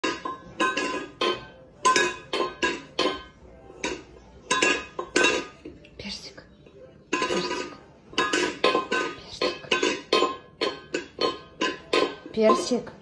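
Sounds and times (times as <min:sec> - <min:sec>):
metal bowl clanking on floor: 0:00.0 - 0:05.8, 0:07.0 - 0:13.0.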